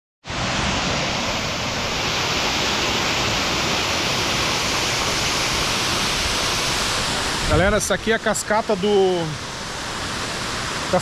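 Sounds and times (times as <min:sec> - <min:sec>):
waterfall rushing: 0:00.3 - 0:11.0.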